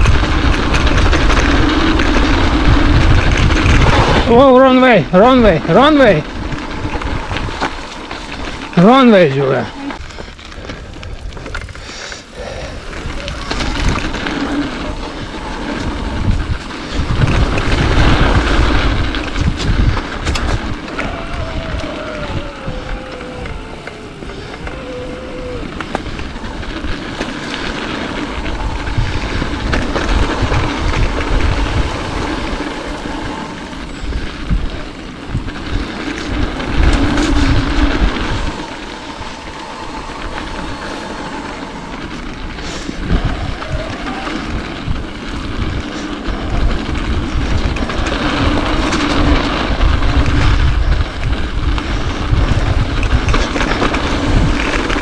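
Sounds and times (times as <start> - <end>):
bike rattling and clicking: 0.0 - 55.0
tyres rumbling on dirt: 0.0 - 55.0
wind rushing on microphone: 0.0 - 55.0.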